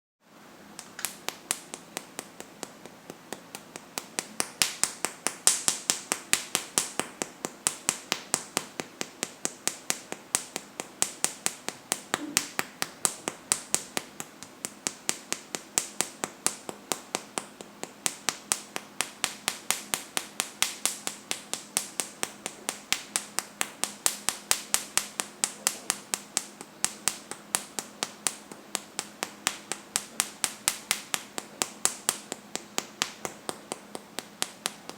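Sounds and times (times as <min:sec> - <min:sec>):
hand patting on chest: 0:00.8 - 0:34.9.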